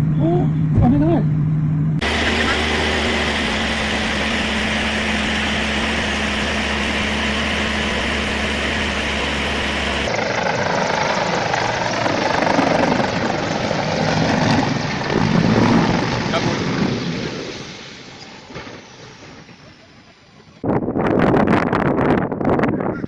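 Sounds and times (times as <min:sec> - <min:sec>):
helicopter rotor and engine drone: 0:00.0 - 0:20.8
rough aircraft noise: 0:00.0 - 0:23.0.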